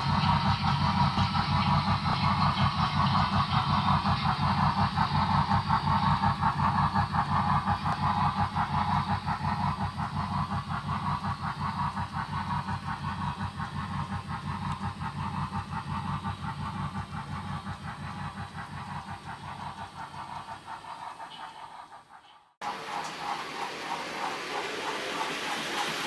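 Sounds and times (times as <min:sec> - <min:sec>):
model steam locomotive chuffs: 0:00.0 - 0:26.0.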